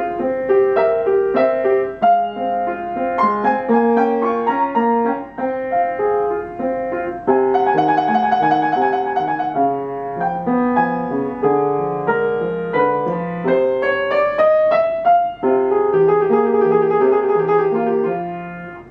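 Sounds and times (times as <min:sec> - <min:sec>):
piano music: 0:00.0 - 0:18.9.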